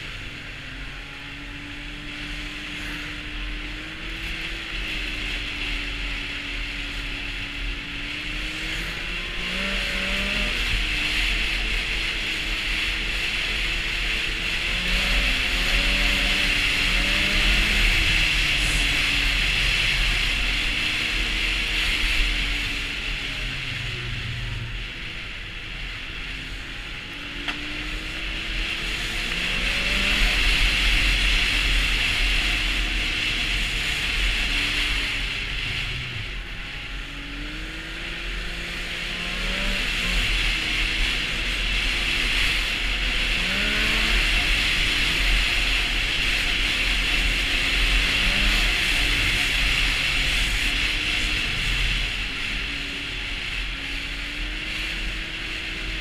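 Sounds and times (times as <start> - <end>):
snowmobile engine revving: 0.0 - 56.0
steady rushing noise: 0.0 - 56.0.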